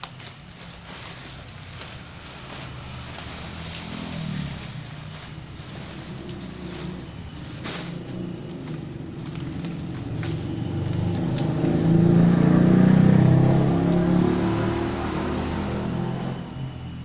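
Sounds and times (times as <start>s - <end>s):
vehicle engine passing by: 2.1s - 17.0s.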